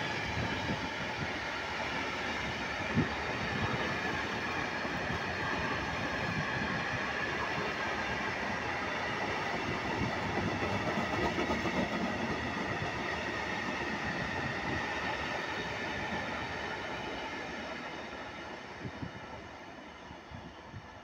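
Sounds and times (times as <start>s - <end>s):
wheels rumbling and rattling on rail: 0.0s - 19.4s.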